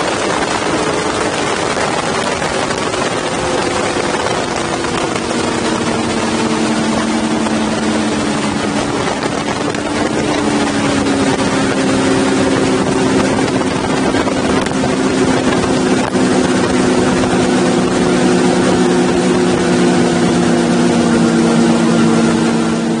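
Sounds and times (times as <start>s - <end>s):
outboard motor at high speed: 0.0s - 23.0s
rushing spray: 0.0s - 23.0s
wind noise on microphone: 0.0s - 23.0s.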